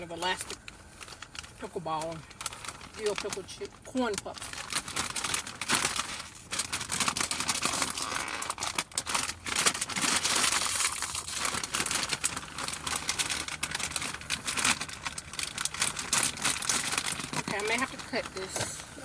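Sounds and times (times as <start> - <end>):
plastic snack bag crackling: 0.0 - 19.0.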